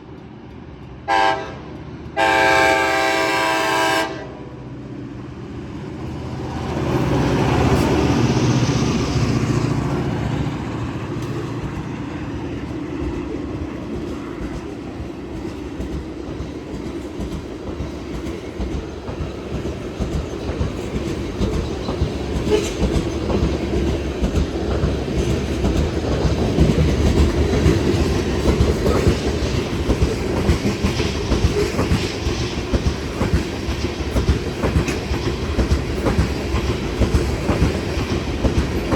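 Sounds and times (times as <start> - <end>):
diesel locomotives passing: 0.0 - 38.9
train wheels clacking over rail joints: 7.0 - 38.9.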